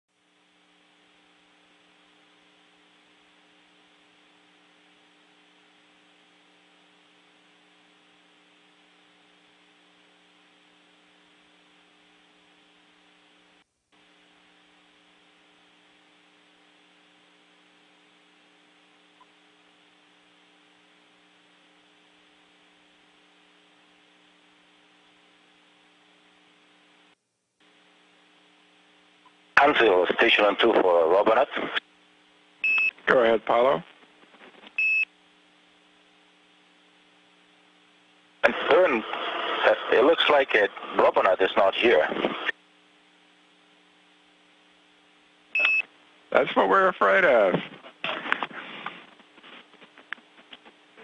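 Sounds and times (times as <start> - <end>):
radio channel hiss and hum: 0.1 - 51.0.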